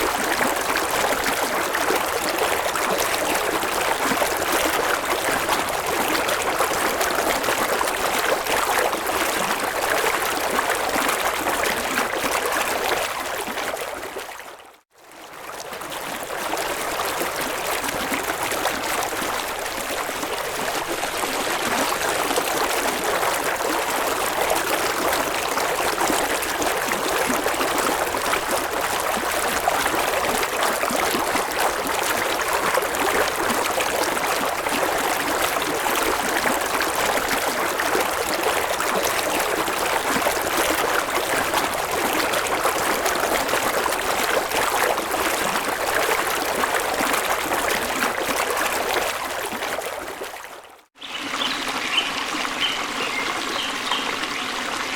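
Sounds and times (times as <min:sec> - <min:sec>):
stream water rushing and trickling: 0:00.0 - 0:54.9.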